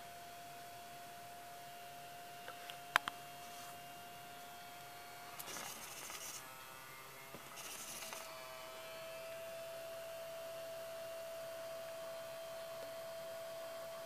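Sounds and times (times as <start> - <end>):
high-pitched servo whine: 2.2 - 14.0.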